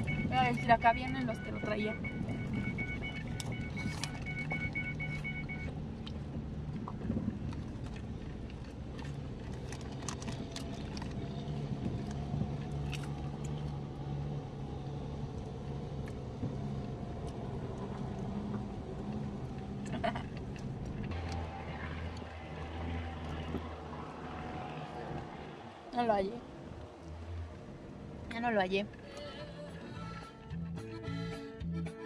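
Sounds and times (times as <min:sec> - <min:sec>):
vehicle engine hum: 0:00.0 - 0:32.0.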